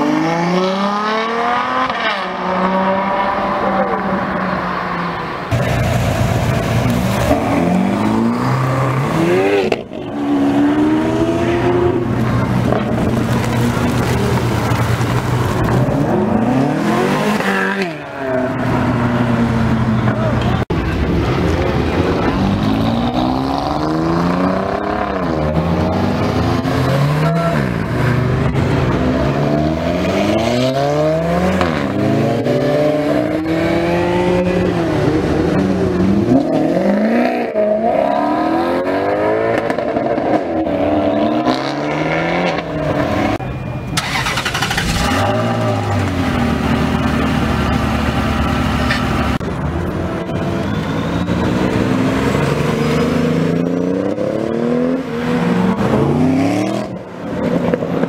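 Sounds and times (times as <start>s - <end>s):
sports cars accelerating hard: 0.0s - 43.4s, 50.3s - 58.0s.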